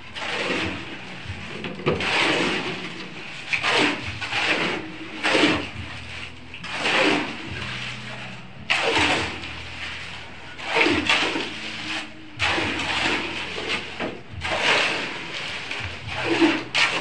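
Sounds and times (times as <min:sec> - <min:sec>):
shovels scraping wet concrete: 0:00.0 - 0:17.0.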